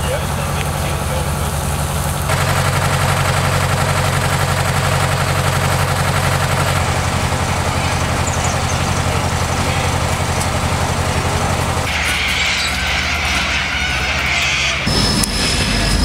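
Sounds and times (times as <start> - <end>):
fire truck engine idling: 0.0 - 16.0.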